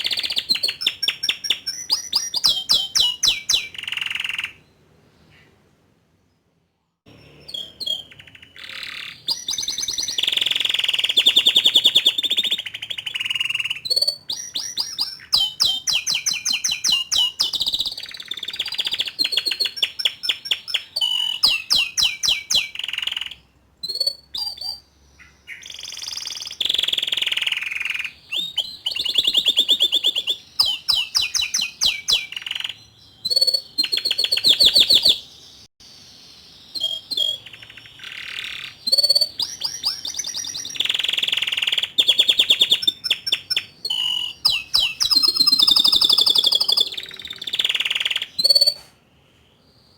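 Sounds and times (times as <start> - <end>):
canary singing trills: 0.0 - 5.6, 6.8 - 49.9.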